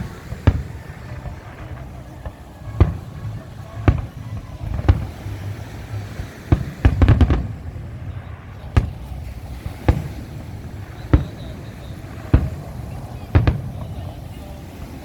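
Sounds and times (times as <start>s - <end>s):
low rumble: 0.0s - 14.4s
fireworks bangs: 0.0s - 15.0s.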